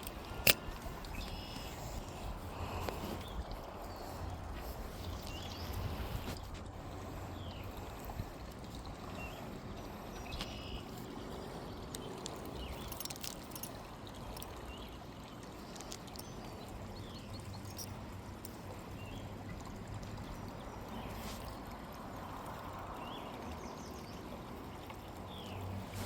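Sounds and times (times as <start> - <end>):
creek water trickling: 0.0 - 26.0.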